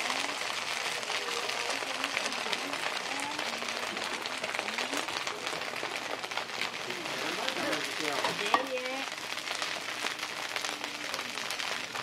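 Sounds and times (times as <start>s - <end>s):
dumplings sizzling on griddle: 0.0s - 12.0s.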